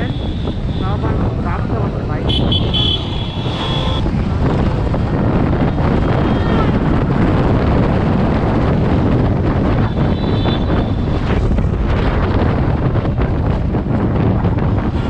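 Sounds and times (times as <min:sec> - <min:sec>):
motorcycle engine: 0:00.0 - 0:15.0
passing road traffic: 0:00.0 - 0:15.0
wind rush on microphone: 0:00.0 - 0:15.0.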